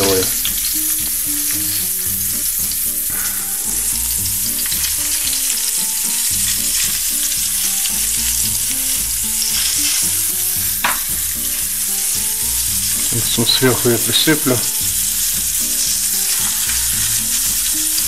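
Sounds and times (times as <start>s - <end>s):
fish sizzling in oil: 0.0s - 18.0s.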